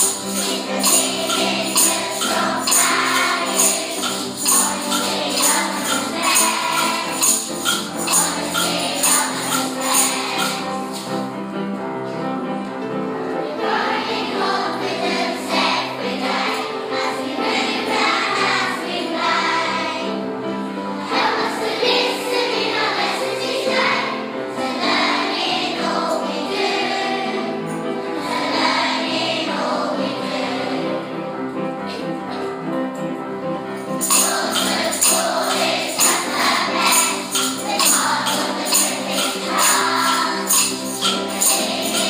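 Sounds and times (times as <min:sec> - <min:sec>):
choir singing: 0:00.0 - 0:11.2, 0:13.3 - 0:31.5, 0:34.0 - 0:42.0
instrumental accompaniment: 0:00.0 - 0:42.0.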